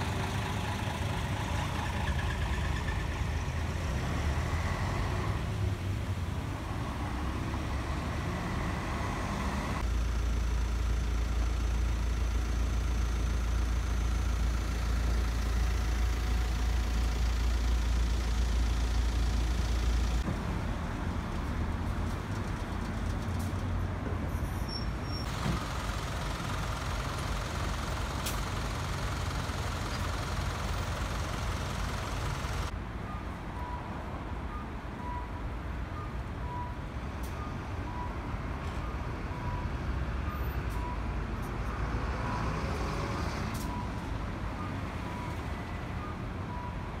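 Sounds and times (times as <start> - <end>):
traffic engine rumble: 0.0 - 47.0.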